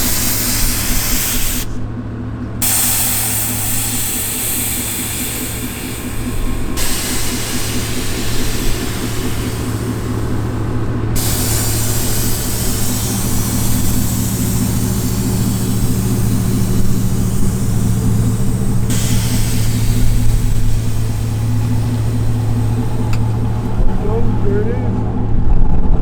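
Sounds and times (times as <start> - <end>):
hiss of noise: 0.0 - 1.8, 2.6 - 25.0
truck engine idling: 0.0 - 25.6.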